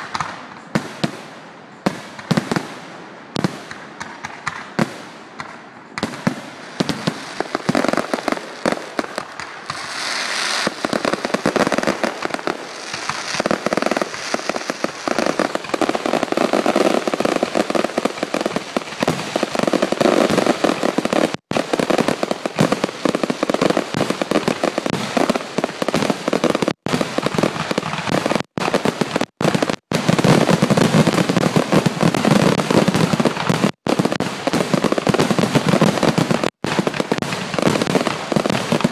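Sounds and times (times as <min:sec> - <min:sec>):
crackling firework stars: 0:00.0 - 0:38.9.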